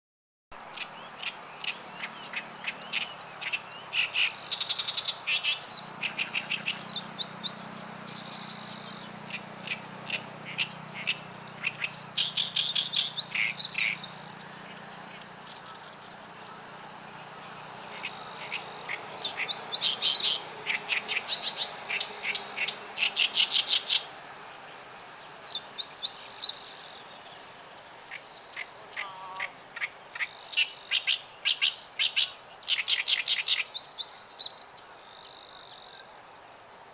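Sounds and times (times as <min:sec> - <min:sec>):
warbler singing chattering notes: 0:00.6 - 0:36.7.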